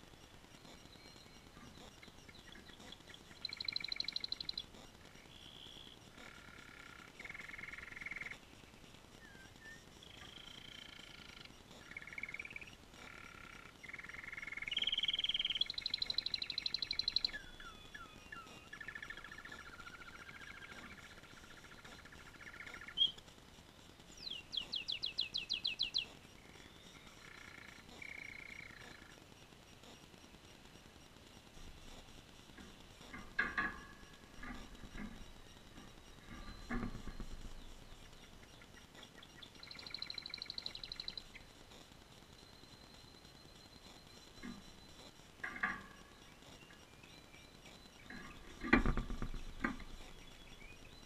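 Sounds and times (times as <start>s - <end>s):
canary singing trills: 0.2s - 23.3s, 24.1s - 29.2s, 31.4s - 51.0s.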